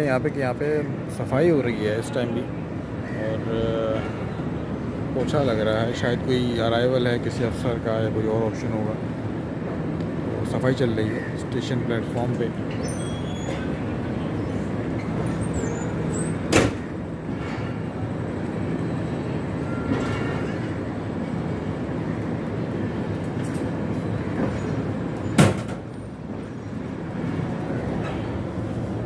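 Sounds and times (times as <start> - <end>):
train rumbling: 0.0 - 29.0.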